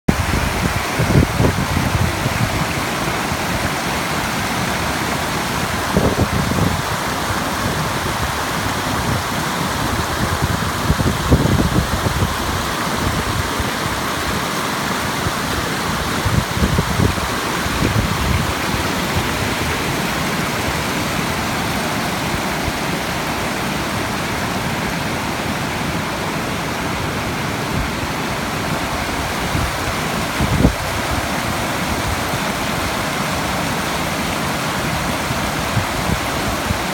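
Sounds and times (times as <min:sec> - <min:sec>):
mountain stream rushing over boulders: 0:00.1 - 0:36.9.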